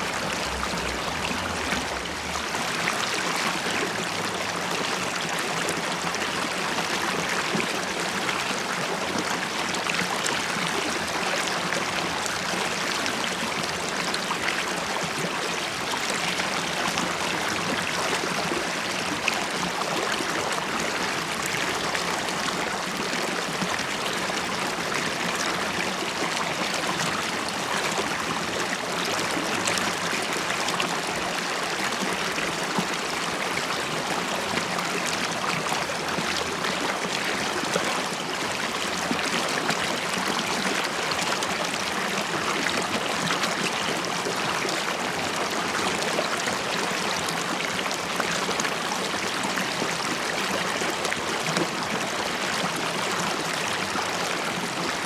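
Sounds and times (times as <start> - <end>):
river water flowing over stones: 0.0 - 55.0.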